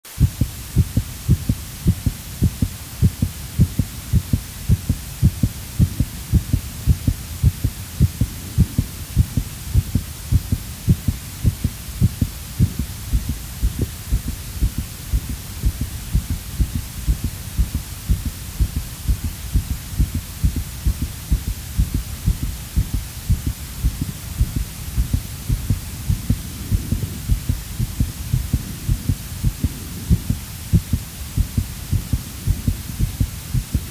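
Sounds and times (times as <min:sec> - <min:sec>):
heartbeat thumps: 0:00.1 - 0:33.9
low hum: 0:00.1 - 0:33.9.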